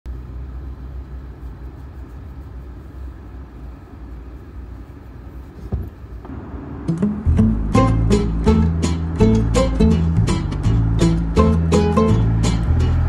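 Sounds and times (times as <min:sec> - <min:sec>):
car engine rumble from inside: 0:00.1 - 0:13.0.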